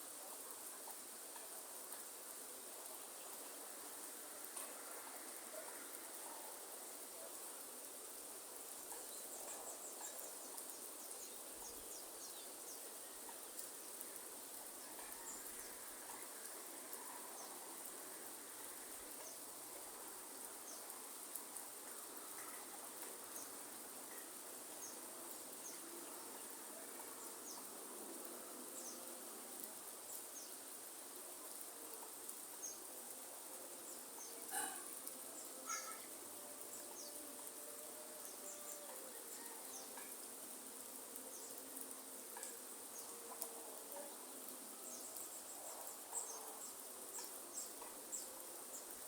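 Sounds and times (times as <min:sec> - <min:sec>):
light rain hiss: 0:00.0 - 0:49.0.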